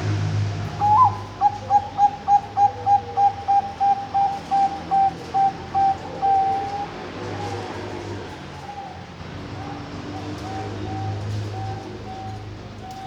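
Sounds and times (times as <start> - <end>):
dove cooing: 0.6 - 13.0.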